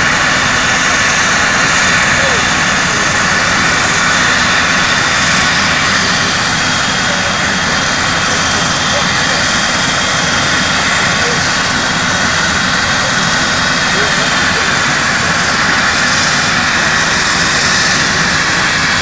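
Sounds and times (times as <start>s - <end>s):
helicopter turbine whine: 0.0s - 19.0s
rotor rushing: 0.0s - 19.0s.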